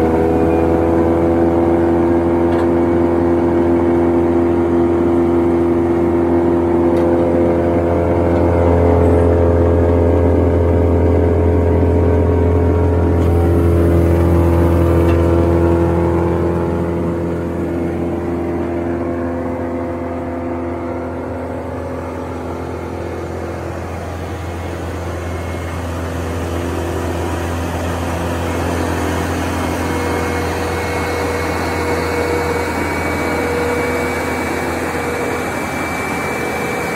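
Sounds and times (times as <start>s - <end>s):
wood chipper running: 0.0s - 36.9s.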